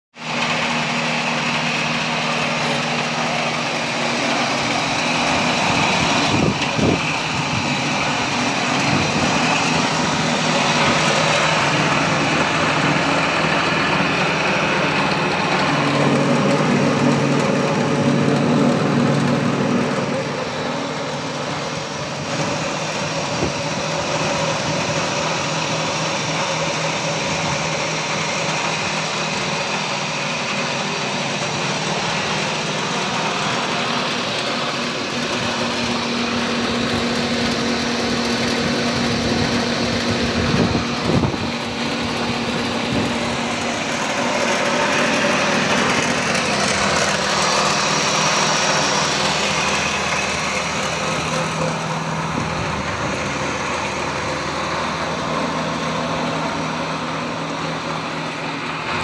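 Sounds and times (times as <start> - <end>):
hammer mill grinding: 0.2 - 59.0.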